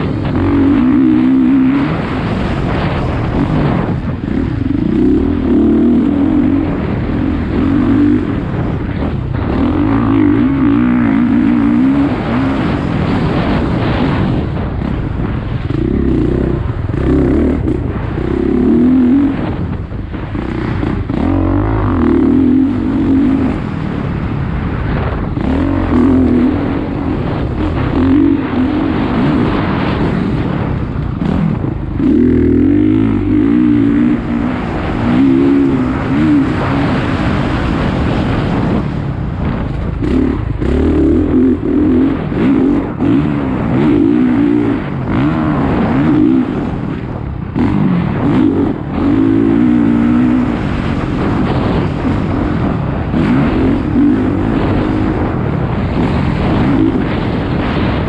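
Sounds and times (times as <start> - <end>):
vehicle engine accelerating: 0.0 - 58.0
wind and road noise: 0.0 - 58.0.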